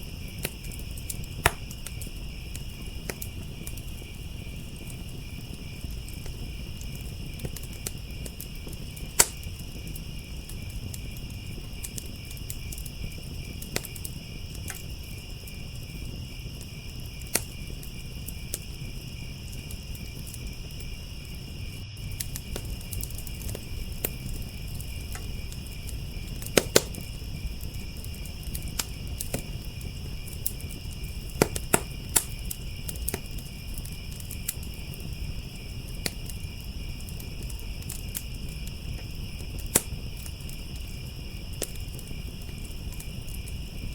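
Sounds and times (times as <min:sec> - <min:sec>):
crickets chirping: 0:00.0 - 0:43.9
wood fire crackling and popping: 0:00.0 - 0:43.9.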